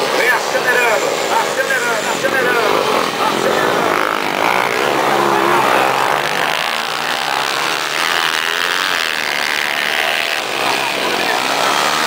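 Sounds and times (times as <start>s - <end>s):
motocross bikes accelerating: 0.0s - 12.0s.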